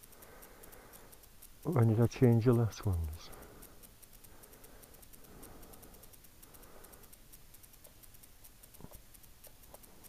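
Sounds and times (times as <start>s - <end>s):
faint small clicks: 0.0s - 10.0s.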